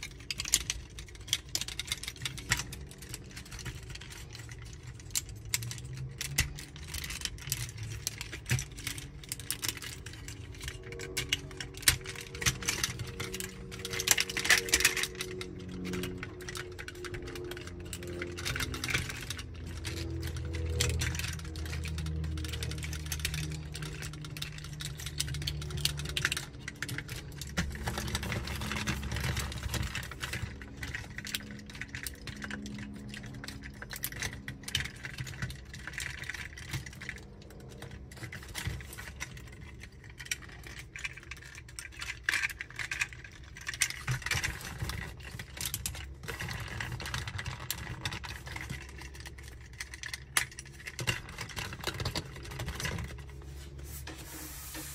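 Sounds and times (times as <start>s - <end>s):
plastic parts clicking and rattling: 0.0s - 53.8s.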